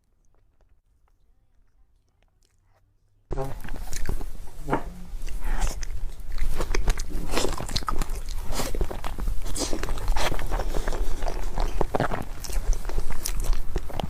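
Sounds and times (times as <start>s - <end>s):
biting and chewing: 0.0s - 14.0s.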